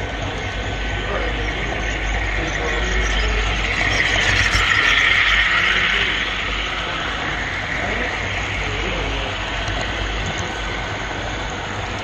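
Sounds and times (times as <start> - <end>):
model train rolling rumble: 0.0 - 12.0.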